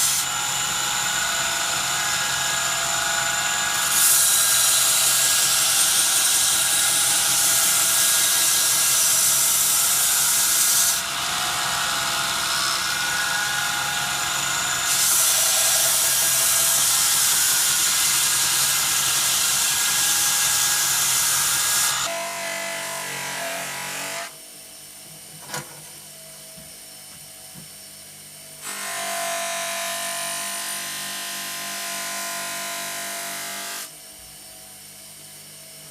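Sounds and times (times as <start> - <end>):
power tools grinding and drilling: 0.0 - 24.3, 28.6 - 33.9.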